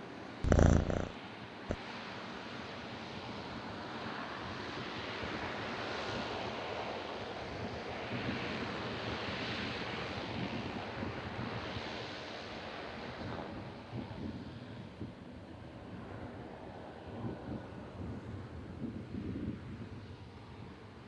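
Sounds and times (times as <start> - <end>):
turboprop aircraft engines: 0.0 - 21.0.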